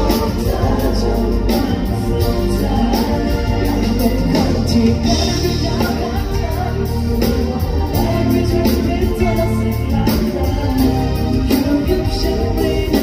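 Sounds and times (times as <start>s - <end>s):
guitar: 0.0s - 13.0s
keyboard: 0.0s - 13.0s
pop song with singing: 0.0s - 13.0s
steady drum beat: 0.0s - 13.0s.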